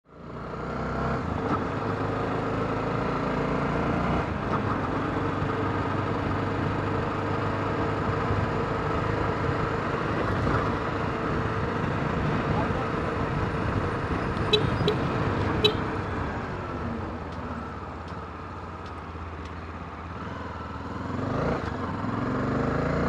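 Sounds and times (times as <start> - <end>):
motorcycle engine riding: 0.1 - 23.0.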